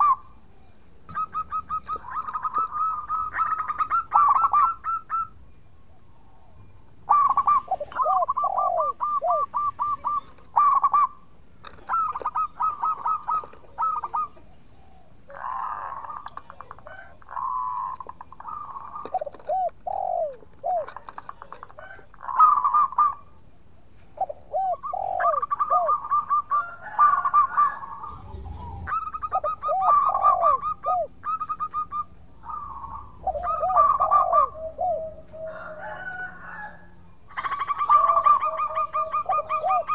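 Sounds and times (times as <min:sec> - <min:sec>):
dove cooing: 0:00.0 - 0:05.4, 0:06.2 - 0:23.3, 0:24.2 - 0:39.9
rough chattering bird calls: 0:00.0 - 0:05.4, 0:06.0 - 0:36.0, 0:37.3 - 0:39.9.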